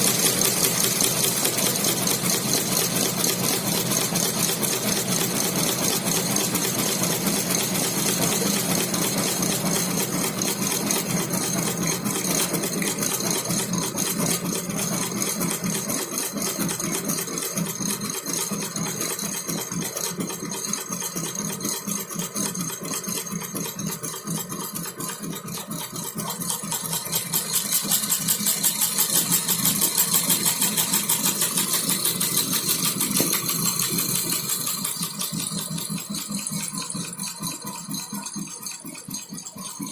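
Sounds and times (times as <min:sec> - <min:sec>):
embroidery machine clattering: 0:00.0 - 0:39.9.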